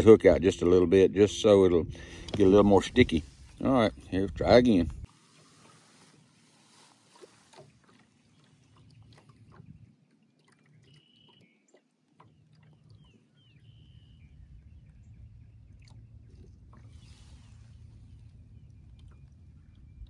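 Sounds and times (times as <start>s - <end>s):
low rumble of water and wind: 0.0s - 20.0s.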